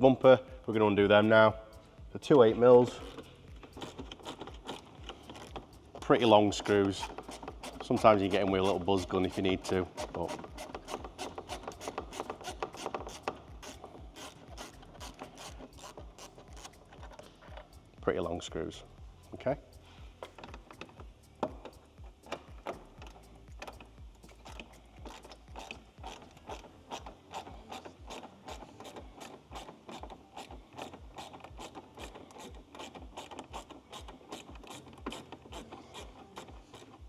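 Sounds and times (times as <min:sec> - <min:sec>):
hand ratchet clicking: 0:02.3 - 0:17.9, 0:19.2 - 0:37.0.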